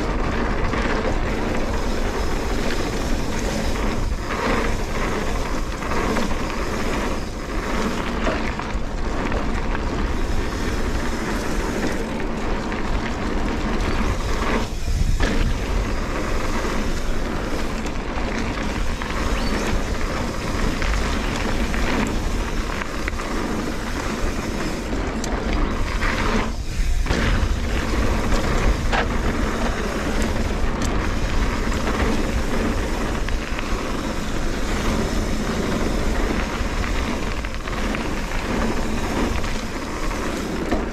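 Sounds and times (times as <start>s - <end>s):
bike clicks and knocks: 0.0s - 40.9s
tyre rumble on dirt: 0.0s - 40.9s
wind rush on microphone: 0.0s - 40.9s.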